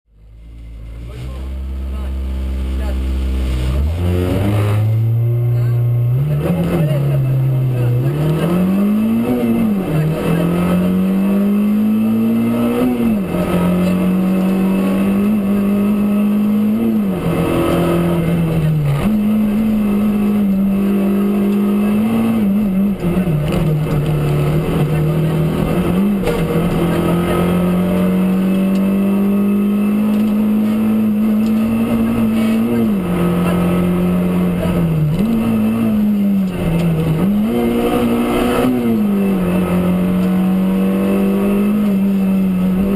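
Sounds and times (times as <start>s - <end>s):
rally car engine revving: 0.1s - 42.9s.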